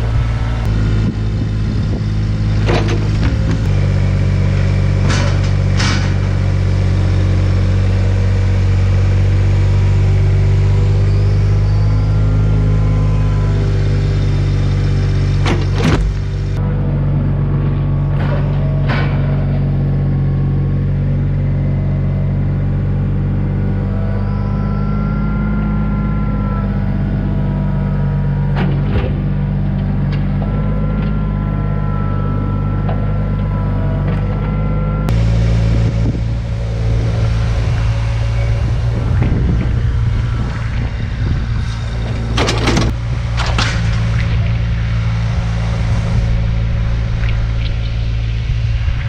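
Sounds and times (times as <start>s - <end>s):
vehicle engine running: 0.0s - 49.0s.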